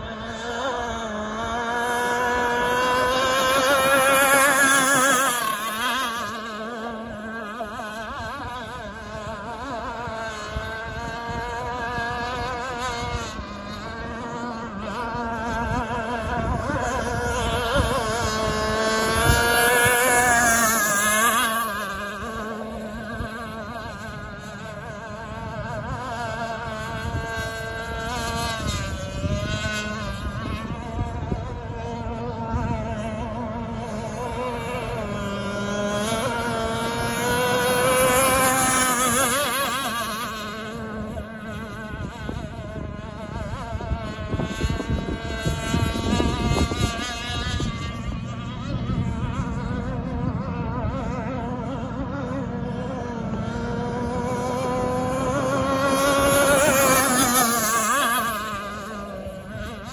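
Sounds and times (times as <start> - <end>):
rc boat motor whining: 0.0 - 59.9
wind rumble on microphone: 0.0 - 59.9.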